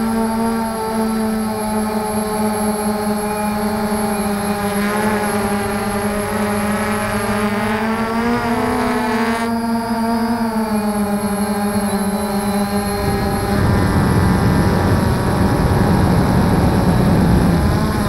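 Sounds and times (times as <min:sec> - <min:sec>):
drone propellers buzzing: 0:00.0 - 0:18.0
faint high whine: 0:00.0 - 0:18.0.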